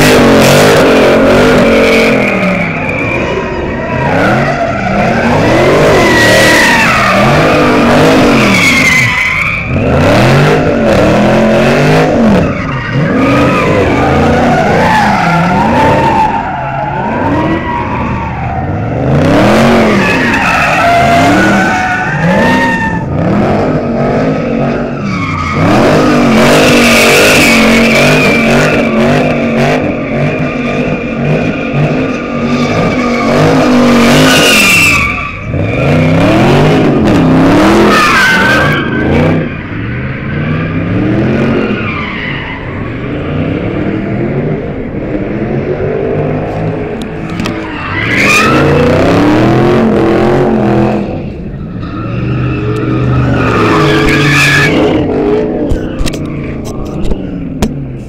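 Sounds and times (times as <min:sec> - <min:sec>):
tyres screeching: 0:00.0 - 0:23.2, 0:23.8 - 0:43.1, 0:46.5 - 0:58.0
car engine revving: 0:00.0 - 0:58.0.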